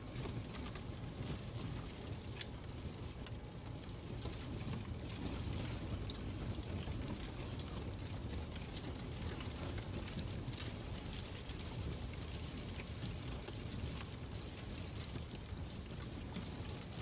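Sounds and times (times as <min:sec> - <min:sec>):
fire crackles and pops: 0:00.0 - 0:17.0
low rumble and hiss of fire: 0:00.0 - 0:17.0.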